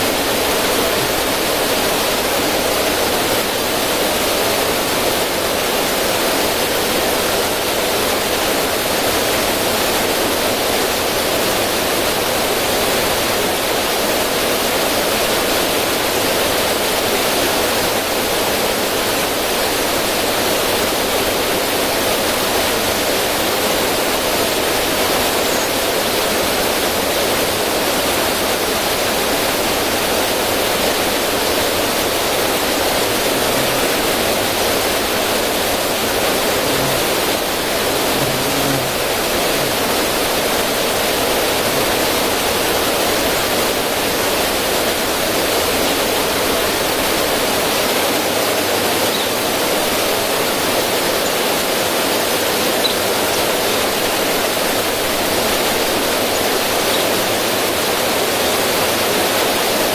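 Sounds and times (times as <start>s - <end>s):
river water splashing over rocks: 0.0s - 59.9s.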